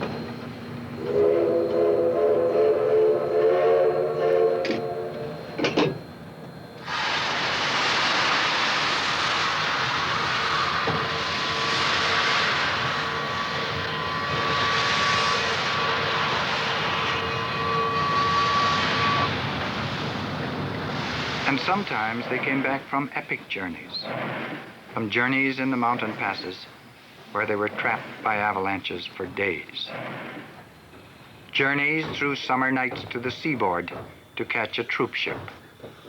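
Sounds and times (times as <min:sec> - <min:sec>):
steam hissing: 0:06.8 - 0:36.0.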